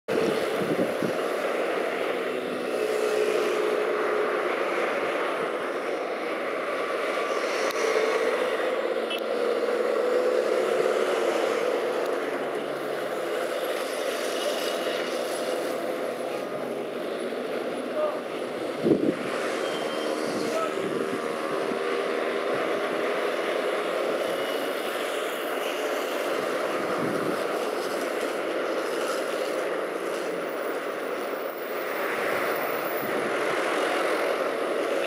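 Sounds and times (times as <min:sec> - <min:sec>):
road noise: 0:00.0 - 0:35.0
car engines passing: 0:00.1 - 0:35.0.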